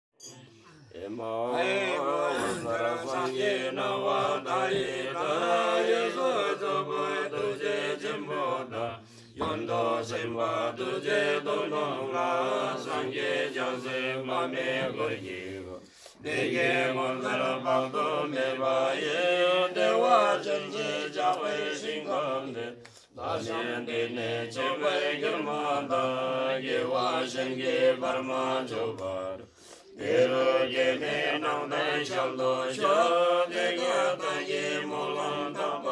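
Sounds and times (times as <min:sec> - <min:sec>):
men chanting prayers: 0:00.8 - 0:35.9.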